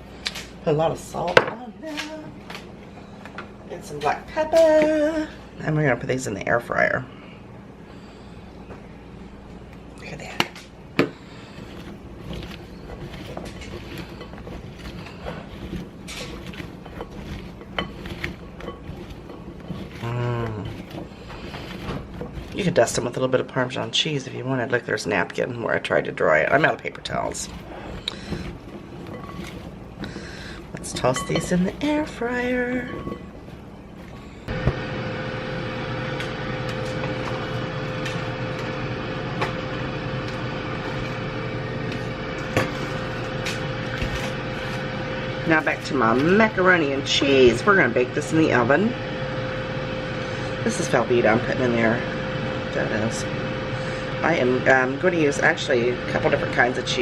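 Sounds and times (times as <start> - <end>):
air fryer fan whirring: 0.0 - 57.0
steady low hum: 0.0 - 57.0.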